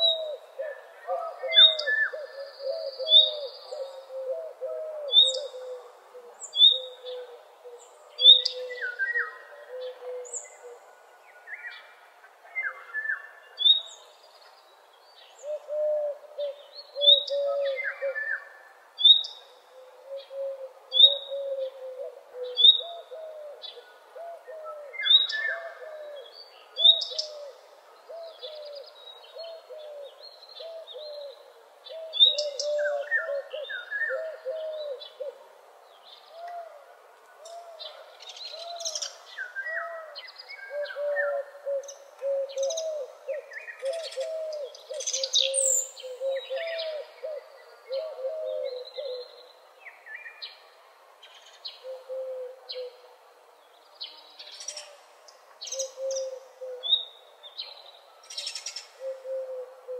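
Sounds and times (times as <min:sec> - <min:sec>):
low repeated bird call: 0:00.0 - 0:12.0, 0:15.2 - 0:59.9.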